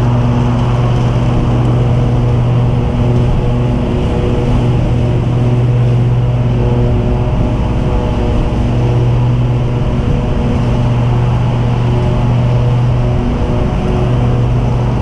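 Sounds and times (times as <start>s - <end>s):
lawn mower engines droning: 0.0s - 15.0s.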